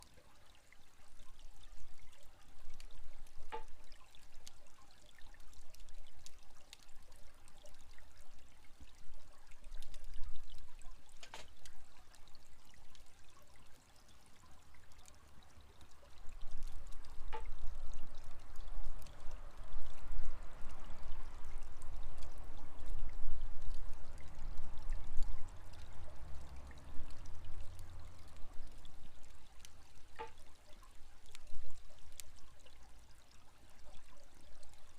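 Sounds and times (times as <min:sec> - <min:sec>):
water pouring: 0:00.0 - 0:34.9
campfire crackling: 0:00.2 - 0:33.6.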